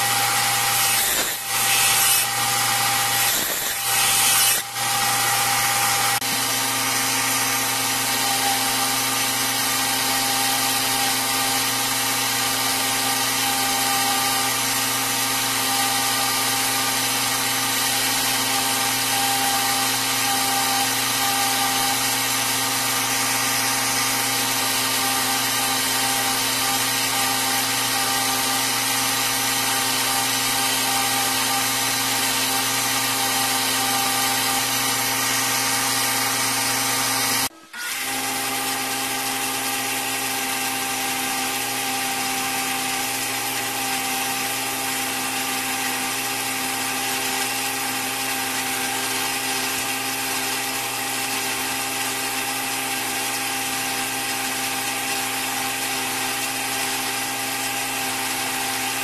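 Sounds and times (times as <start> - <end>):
belt grinder motor humming: 0.0 - 59.0.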